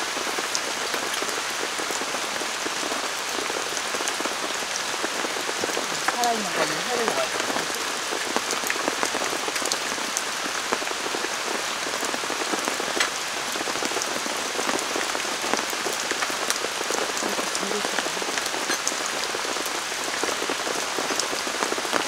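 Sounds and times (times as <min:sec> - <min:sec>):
heavy rain downpour: 0:00.0 - 0:22.0.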